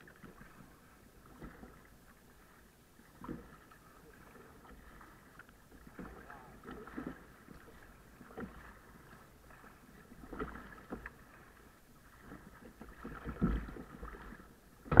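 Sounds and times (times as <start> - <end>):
water lapping against kayak hull: 0.0 - 15.0.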